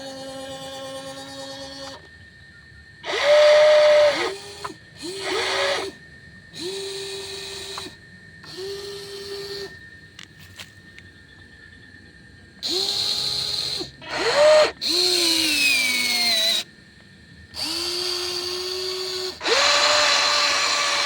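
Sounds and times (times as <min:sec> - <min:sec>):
small electric motors whirring: 0:00.0 - 0:02.2, 0:03.0 - 0:10.8, 0:12.6 - 0:21.0.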